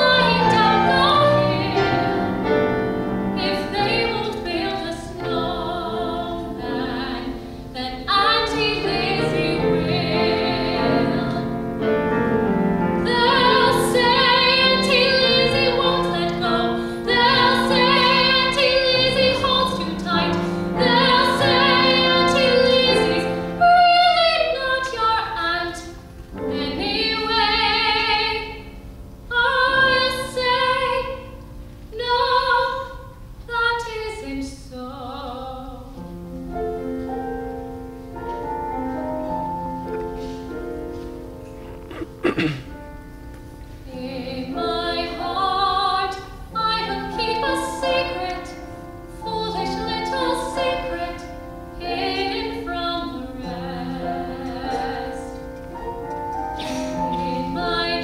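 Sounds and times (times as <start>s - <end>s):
woman singing a ballad: 0.0s - 2.6s, 3.4s - 11.6s, 13.0s - 36.1s, 43.9s - 55.6s, 56.6s - 58.0s
piano accompaniment: 0.0s - 33.1s, 34.9s - 58.0s.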